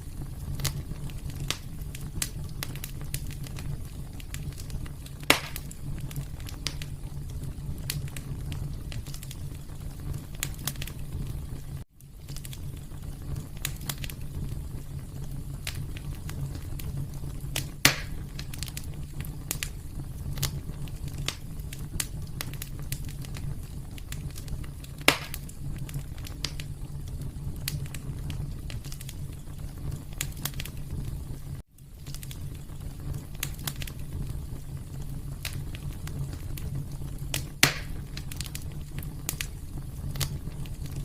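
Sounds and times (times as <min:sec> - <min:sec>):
fire crackles and pops: 0:00.0 - 0:41.0
fire low rumble: 0:00.0 - 0:41.0.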